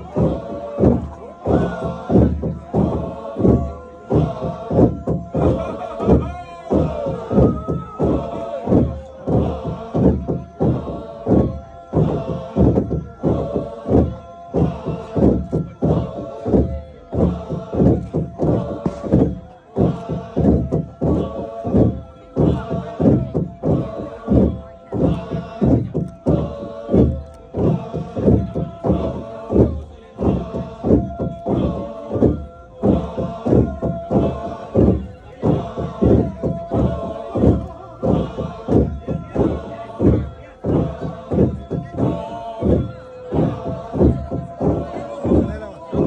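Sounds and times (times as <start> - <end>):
group chanting and singing: 0.0 - 46.0
held sung tone: 0.0 - 46.0
loud shouted syllables: 0.0 - 46.0
wooden log drum beating: 0.0 - 46.0.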